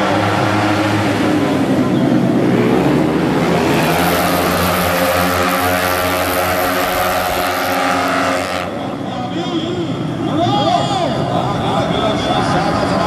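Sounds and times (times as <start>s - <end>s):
scooter engines high-revving drone: 0.0s - 13.0s.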